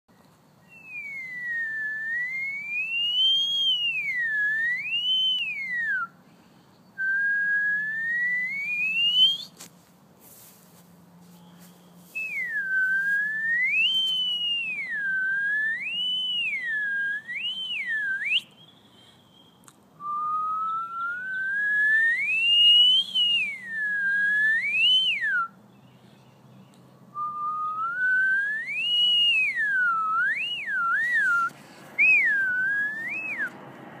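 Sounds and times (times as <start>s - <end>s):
person whistling: 0.7s - 6.1s, 7.0s - 9.6s, 11.6s - 18.6s, 19.3s - 25.5s, 27.2s - 33.5s.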